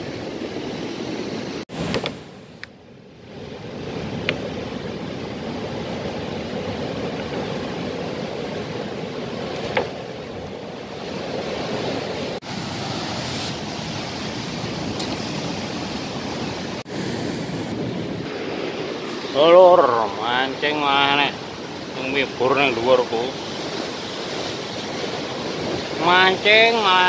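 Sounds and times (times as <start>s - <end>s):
waves breaking on rocky shore: 3.2s - 27.0s.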